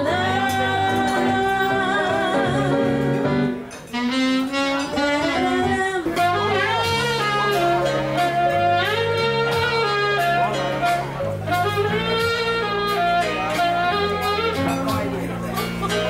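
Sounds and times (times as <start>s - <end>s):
bass notes and chords: 0.0s - 16.0s
wavering lead melody: 0.0s - 16.0s.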